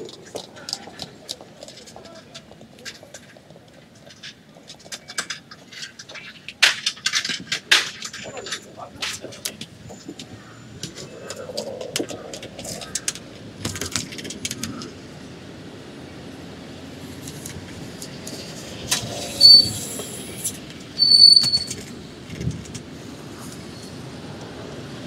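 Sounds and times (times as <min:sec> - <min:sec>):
brakes squealing: 0:00.0 - 0:13.6, 0:14.3 - 0:25.0
traffic noise: 0:00.0 - 0:25.0.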